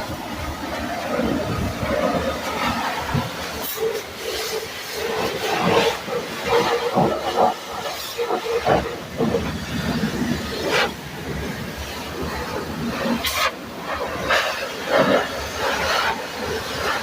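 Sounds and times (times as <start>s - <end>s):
water jet spraying: 0.0s - 17.0s.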